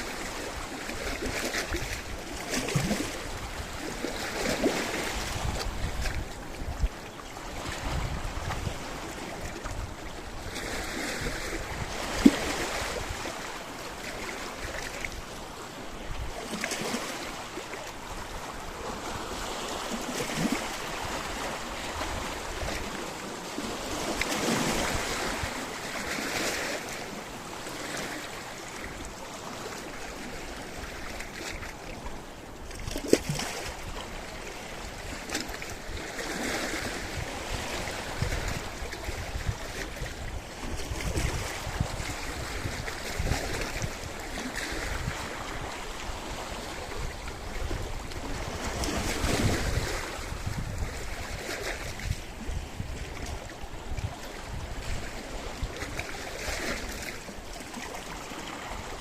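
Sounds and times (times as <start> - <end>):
waves on rocky shore: 0.0 - 59.0.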